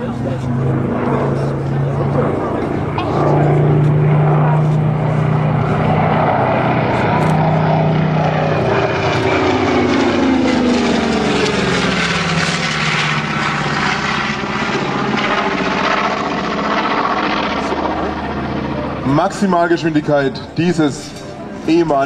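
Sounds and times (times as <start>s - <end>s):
propeller plane engine flying past: 0.0s - 22.0s.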